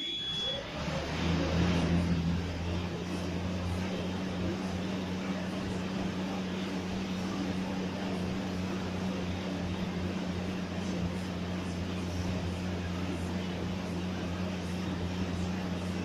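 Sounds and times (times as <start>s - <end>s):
exercise bike fan whirring: 0.0s - 16.0s.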